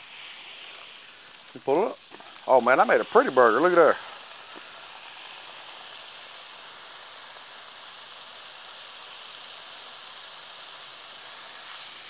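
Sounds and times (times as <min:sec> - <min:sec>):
burger patty sizzling on griddle: 0:00.0 - 0:12.0.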